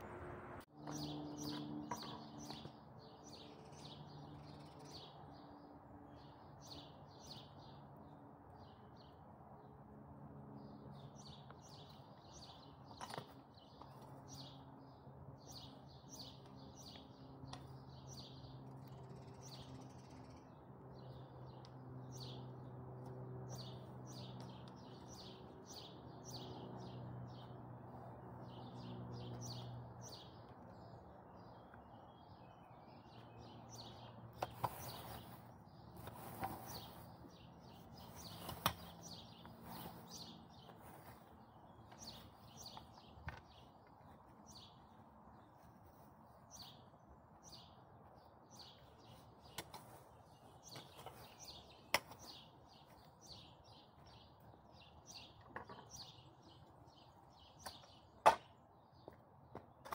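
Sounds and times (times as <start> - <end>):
small birds chirping: 0.8 - 9.3, 10.6 - 59.9.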